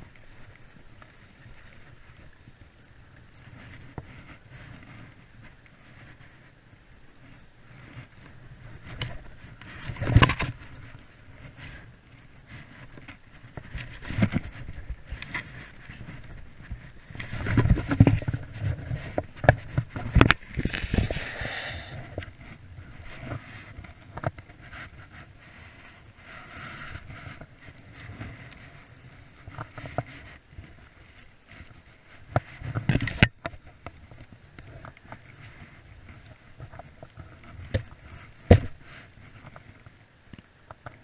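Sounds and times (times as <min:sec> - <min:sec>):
rustling through plants: 0:00.0 - 0:40.2
thumps and scraping of climbing: 0:07.3 - 0:41.0.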